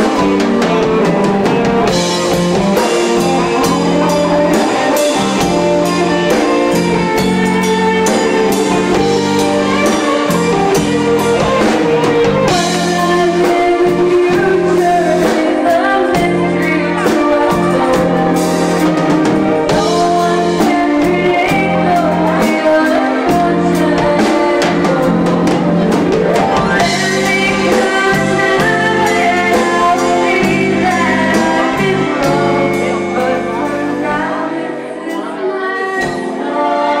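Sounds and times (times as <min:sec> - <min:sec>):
band with drum kit: 0:00.0 - 0:37.0
woman singing into microphone: 0:00.0 - 0:37.0.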